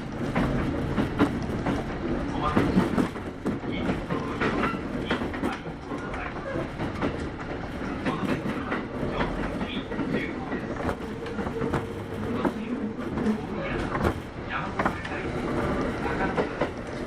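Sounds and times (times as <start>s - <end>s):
train rumbling: 0.0s - 17.0s
wheels clicking over rail joints: 0.0s - 17.0s.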